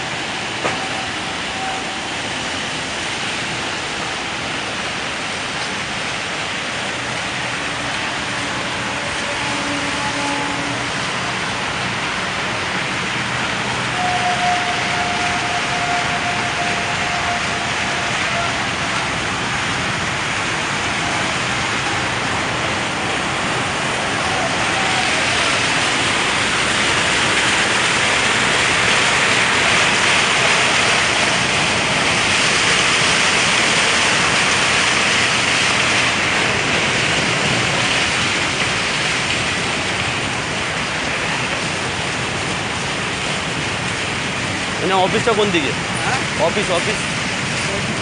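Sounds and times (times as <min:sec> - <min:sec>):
road noise: 0:00.0 - 0:48.0
rushing wind: 0:00.0 - 0:48.0.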